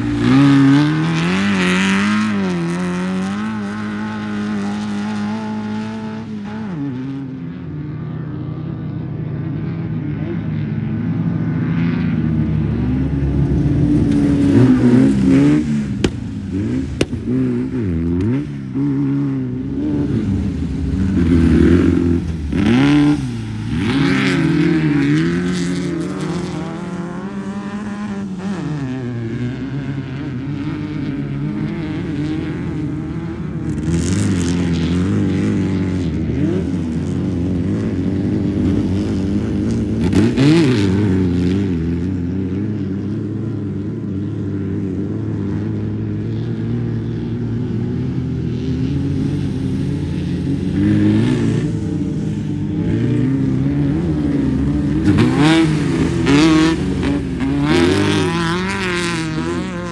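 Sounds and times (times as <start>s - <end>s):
race car engine revving: 0.0s - 7.4s, 11.4s - 43.1s, 45.4s - 59.9s.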